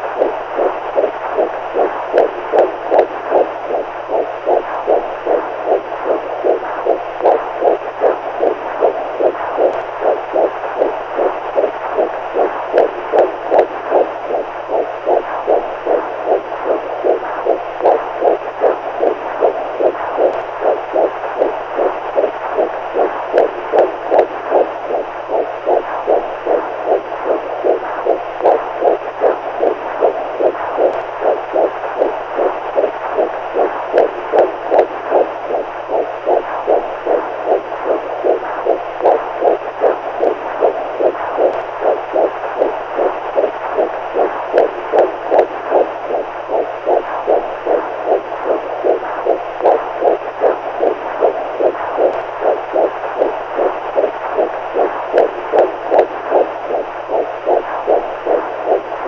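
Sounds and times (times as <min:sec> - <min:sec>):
soft heartbeat: 0:00.0 - 0:59.0.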